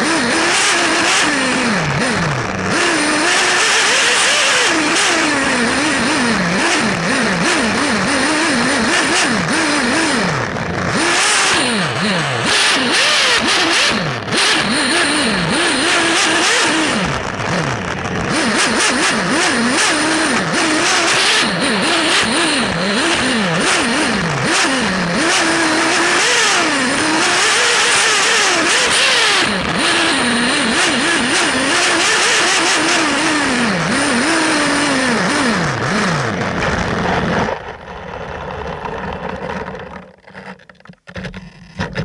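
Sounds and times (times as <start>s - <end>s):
nitro model car engine revving: 0.0s - 42.0s.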